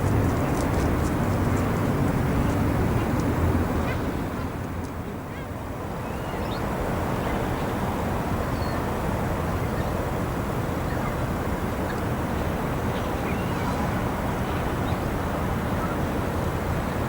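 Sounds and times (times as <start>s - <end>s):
low harbour rumble: 0.0s - 17.0s.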